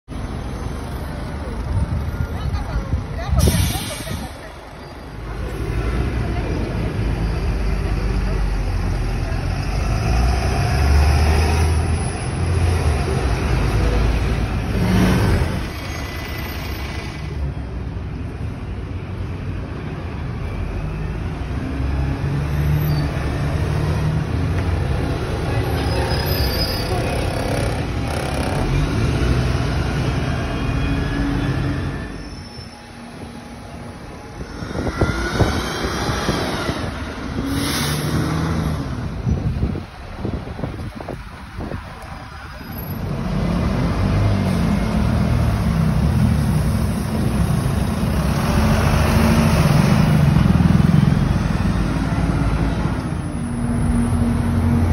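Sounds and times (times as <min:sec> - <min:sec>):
traffic noise: 0:00.0 - 0:54.9
buses passing: 0:00.1 - 0:54.9.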